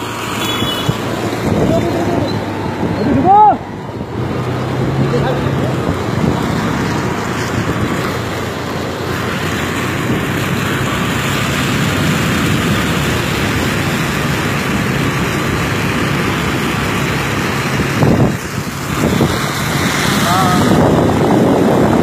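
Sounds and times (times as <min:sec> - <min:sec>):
water splashing off wheel: 0:04.0 - 0:22.0.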